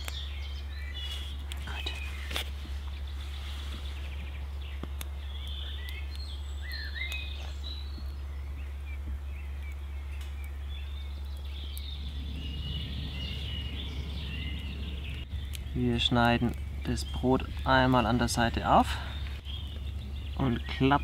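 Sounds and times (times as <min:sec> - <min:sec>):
birds chirping and singing: 0:00.0 - 0:21.0
low hum: 0:00.0 - 0:21.0
wood fire crackling: 0:00.0 - 0:21.0.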